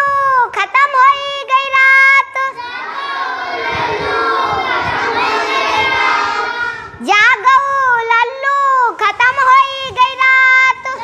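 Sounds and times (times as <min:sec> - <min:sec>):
children shouting and singing: 0:00.0 - 0:11.0
child singing: 0:00.7 - 0:11.0.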